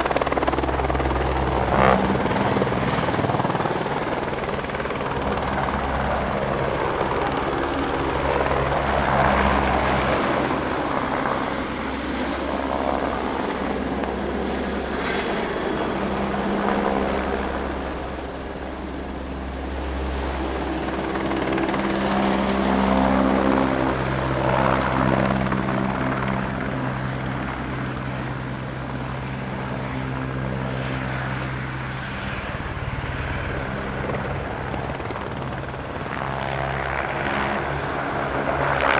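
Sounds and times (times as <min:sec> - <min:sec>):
aircraft engine droning: 0:00.0 - 0:38.9.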